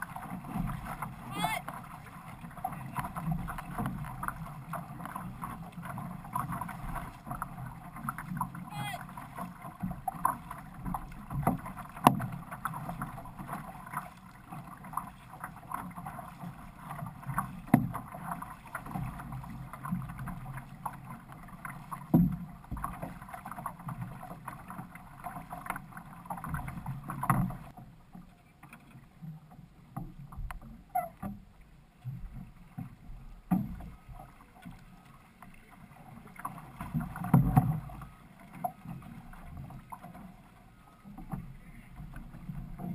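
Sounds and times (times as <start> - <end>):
paddle stroke splashes: 0.0 - 42.9
water rushing along canoe hull: 0.0 - 42.9.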